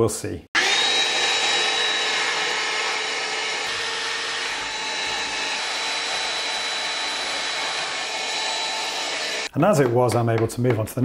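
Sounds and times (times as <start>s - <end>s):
handheld vacuum whining: 0.6s - 9.5s.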